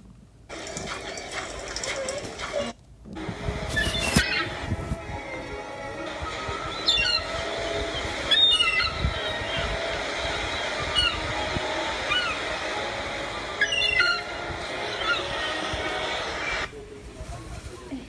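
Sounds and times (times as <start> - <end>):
gulls calling: 0.5 - 16.7
steady background hiss: 2.7 - 18.0.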